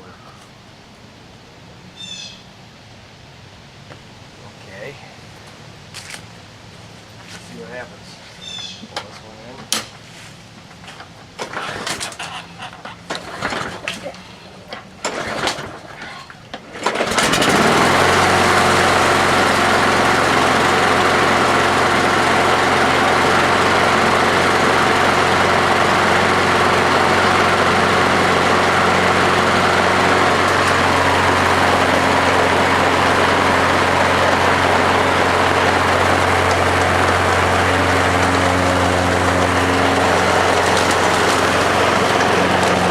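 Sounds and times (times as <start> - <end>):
lawnmower engine starting and running: 8.4 - 42.9.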